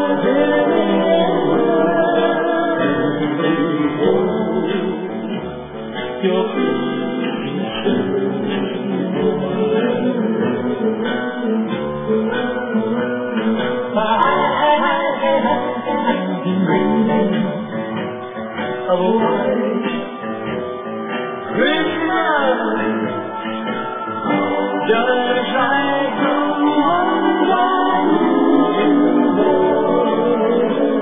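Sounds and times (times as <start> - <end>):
song with guitar and singing: 0.0 - 31.0.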